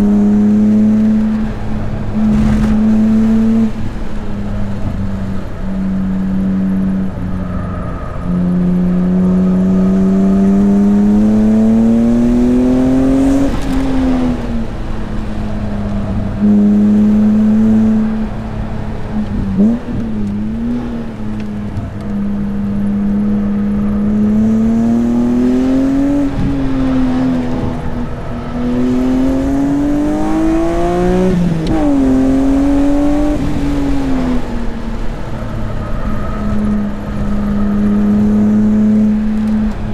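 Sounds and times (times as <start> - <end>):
car engine revving on track: 0.0 - 39.9.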